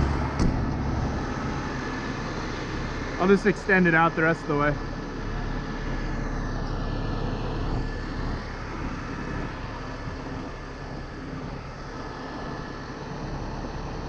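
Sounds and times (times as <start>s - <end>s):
tow truck engine running: 0.0s - 14.0s.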